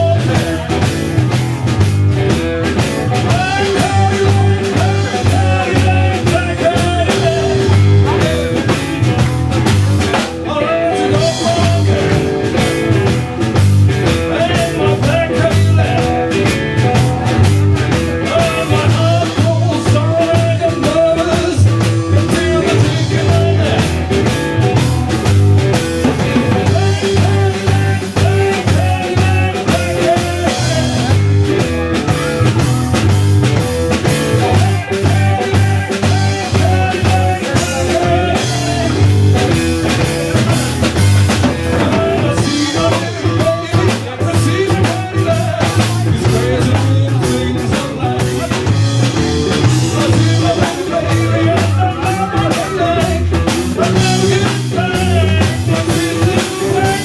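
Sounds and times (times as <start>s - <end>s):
bass guitar: 0.0s - 57.0s
drum kit steady beat: 0.0s - 57.0s.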